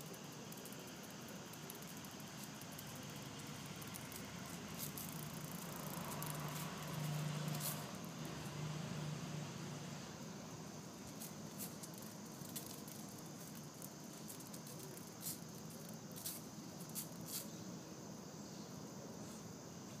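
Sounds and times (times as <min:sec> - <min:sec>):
cicada rasping clicks: 0:00.0 - 0:20.0
faint steady hiss: 0:00.0 - 0:20.0.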